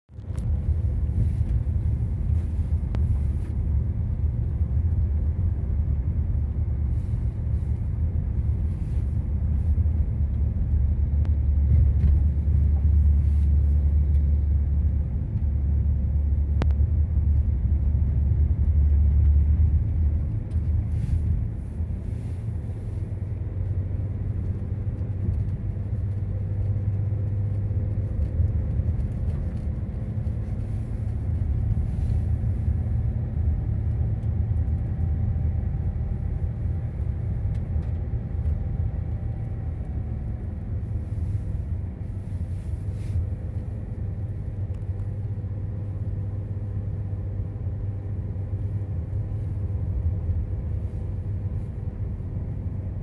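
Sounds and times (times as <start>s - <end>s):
car engine rumble: 0.1s - 53.0s.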